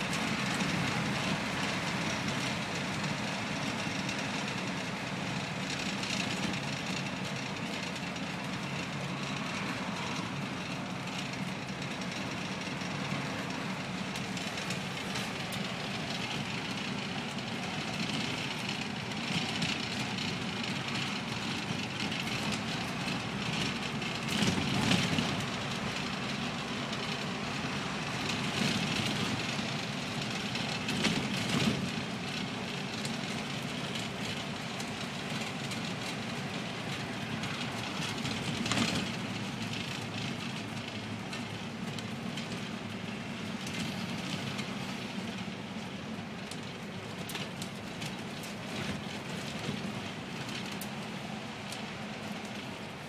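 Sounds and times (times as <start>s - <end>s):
bus engine and road noise: 0.0s - 53.0s.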